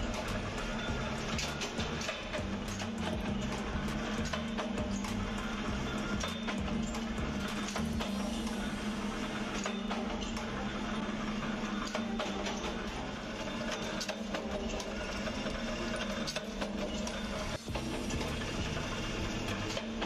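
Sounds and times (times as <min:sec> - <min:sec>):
punch press motor hum: 0:00.0 - 0:20.0.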